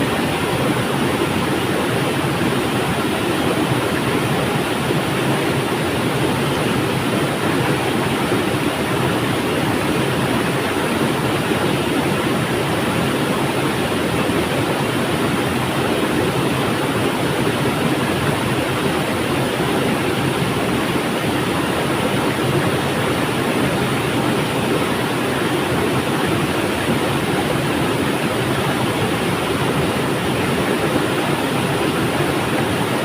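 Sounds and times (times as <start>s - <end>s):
river water flowing: 0.0s - 33.0s.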